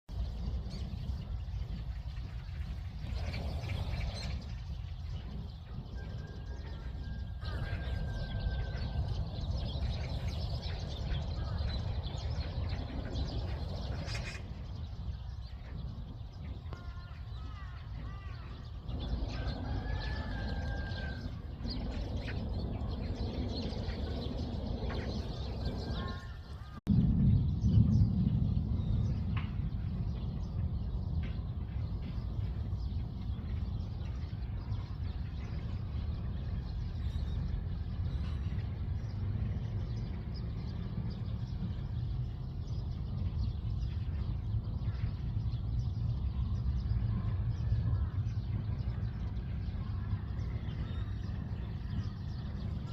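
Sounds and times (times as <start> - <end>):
bird chirps: 0.1 - 52.9
traffic rumble: 0.1 - 52.9.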